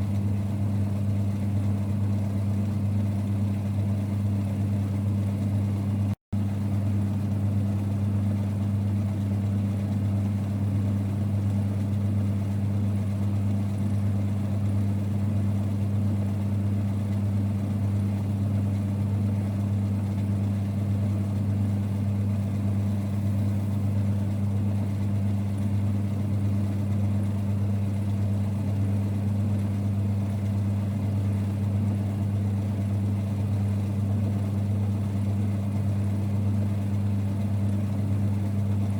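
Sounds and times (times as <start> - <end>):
lathe running with low hum: 0.0 - 38.9.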